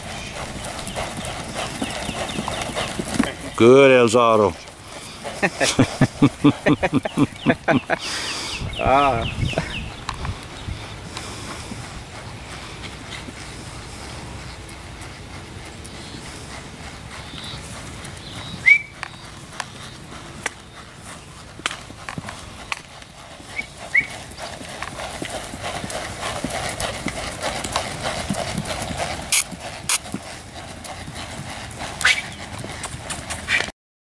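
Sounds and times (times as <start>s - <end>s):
horse hoofbeats on dirt: 0.0s - 33.7s.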